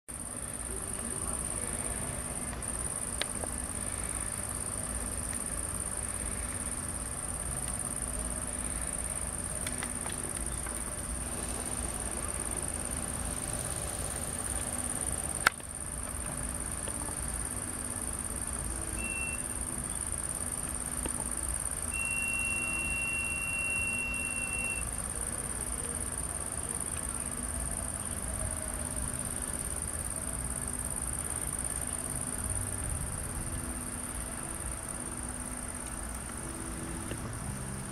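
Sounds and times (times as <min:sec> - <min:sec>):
crickets chirring: 0:00.1 - 0:37.9.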